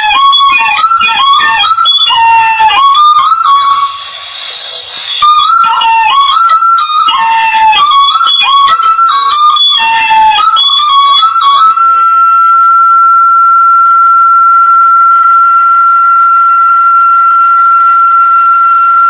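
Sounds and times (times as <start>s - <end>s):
bamboo flute playing: 0.0s - 19.0s.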